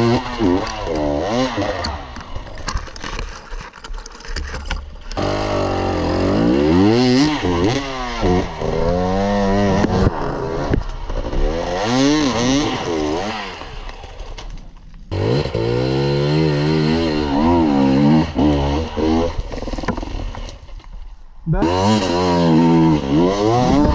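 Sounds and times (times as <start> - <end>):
dirt bike engine revving: 0.0 - 2.4, 5.2 - 14.3, 15.1 - 20.4, 21.5 - 23.9.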